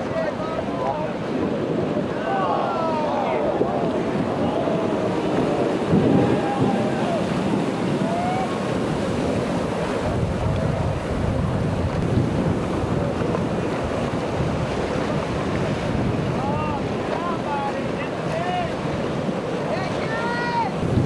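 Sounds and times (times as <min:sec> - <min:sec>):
breaking surf: 0:00.0 - 0:21.0
faint jet ski engines: 0:00.0 - 0:21.0
wind buffeting microphone: 0:00.0 - 0:21.0.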